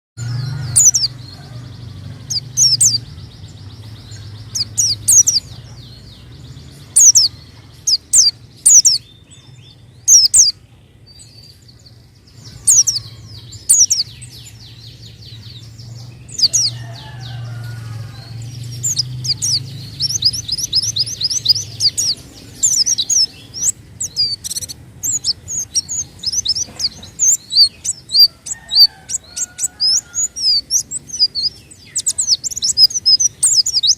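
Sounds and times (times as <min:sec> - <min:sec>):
small bird chirping and twittering: 0:00.2 - 0:33.9.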